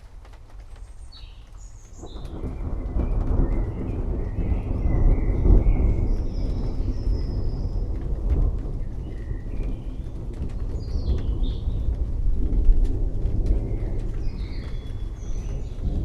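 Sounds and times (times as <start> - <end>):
distant thunder rumbling: 0.0 - 16.0
rain falling: 0.0 - 16.0
raindrops ticking: 0.0 - 16.0
birds chirping: 0.5 - 16.0.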